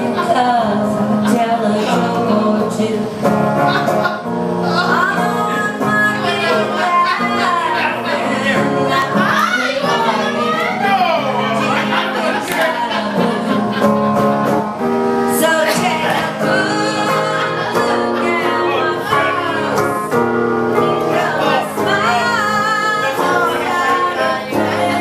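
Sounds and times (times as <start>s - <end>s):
woman singing: 0.0s - 3.4s, 4.6s - 11.0s, 12.3s - 14.0s, 15.3s - 25.0s
electric guitar: 0.0s - 25.0s.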